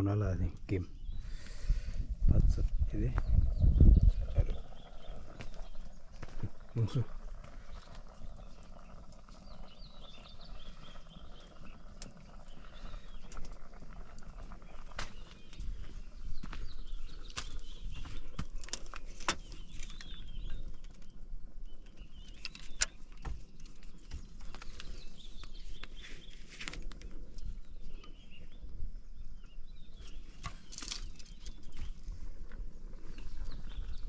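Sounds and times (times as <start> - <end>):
bird chirps: 3.0 - 32.0, 33.0 - 34.0.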